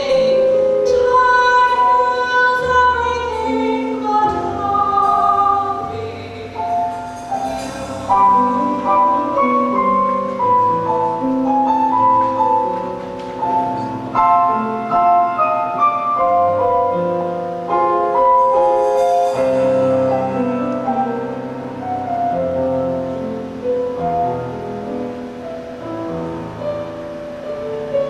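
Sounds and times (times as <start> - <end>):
piano playing show tune: 0.0 - 28.0.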